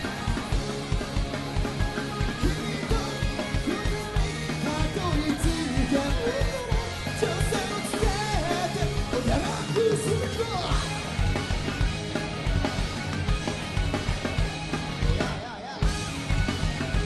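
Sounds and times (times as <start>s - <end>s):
electric guitars: 0.0s - 17.0s
rock band playing: 0.0s - 17.0s
steady drum beat: 0.0s - 17.0s.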